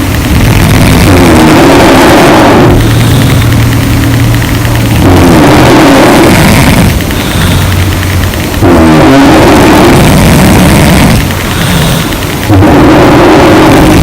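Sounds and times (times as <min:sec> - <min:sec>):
low steady drone: 0:00.0 - 0:14.0
rattling snores: 0:00.0 - 0:14.0.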